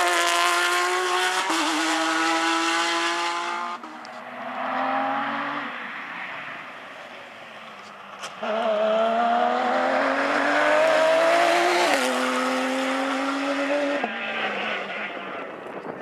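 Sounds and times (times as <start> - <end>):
rally car engine accelerating: 0.0 - 5.8, 8.4 - 15.6.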